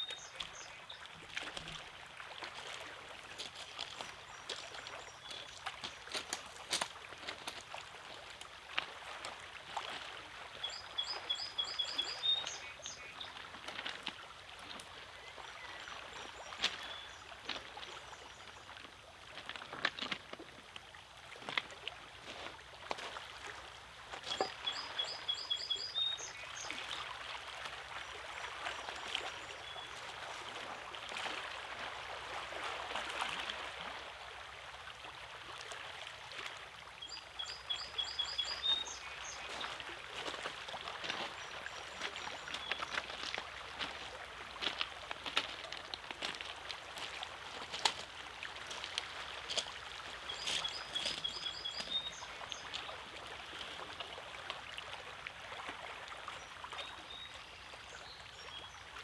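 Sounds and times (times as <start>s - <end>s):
small waves lapping against rocks: 0.0s - 59.0s.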